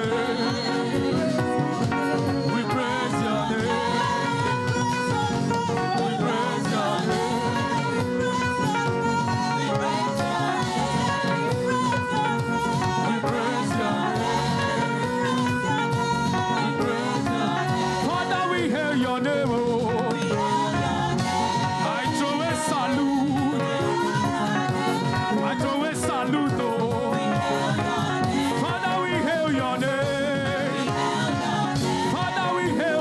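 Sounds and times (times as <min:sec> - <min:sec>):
choir singing praise music: 0:00.0 - 0:33.0
live band with steady beat: 0:00.0 - 0:33.0.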